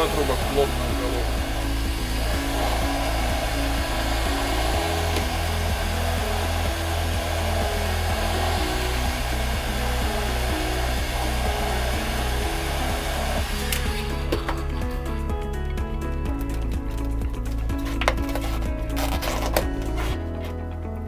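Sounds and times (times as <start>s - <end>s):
heat gun blowing: 0.0s - 20.5s
background music with bass line: 0.0s - 21.0s.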